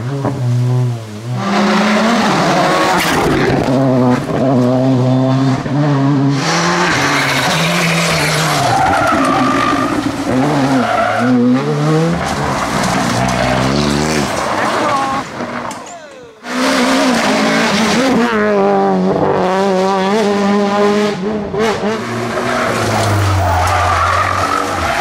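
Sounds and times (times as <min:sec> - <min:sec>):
tyres skidding and squealing: 0:00.0 - 0:18.6, 0:21.9 - 0:25.0
rally car engines revving: 0:00.0 - 0:25.0.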